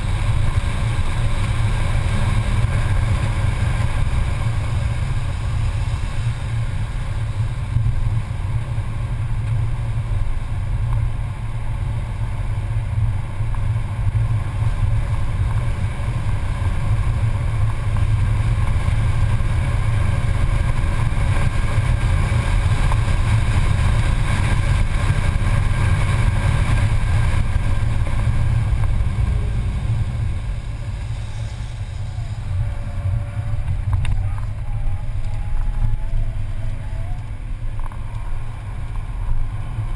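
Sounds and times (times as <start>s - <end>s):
car engine running hard: 0.0s - 39.9s
road and wind noise: 0.0s - 39.9s.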